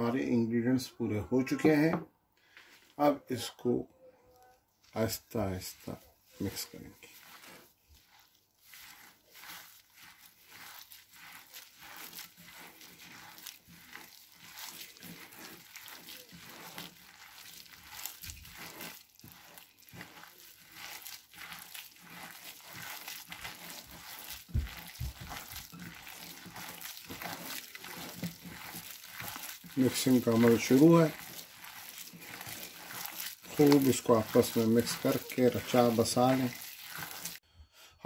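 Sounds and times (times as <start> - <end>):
wet squelches of kneading meat: 2.4 - 37.4.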